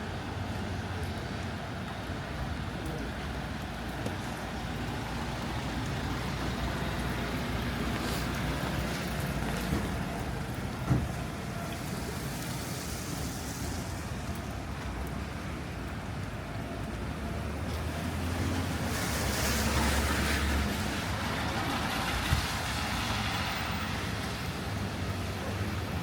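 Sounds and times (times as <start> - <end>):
traffic on wet street: 0.0 - 26.0.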